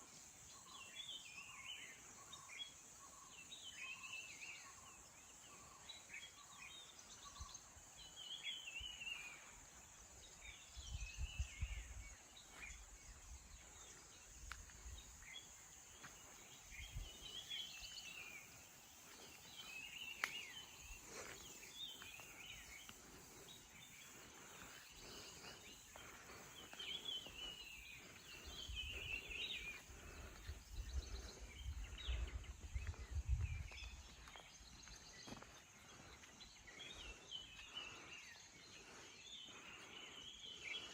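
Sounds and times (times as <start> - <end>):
birds chirping and calling: 0.0 - 40.9
steady high-pitched hiss: 0.0 - 40.9.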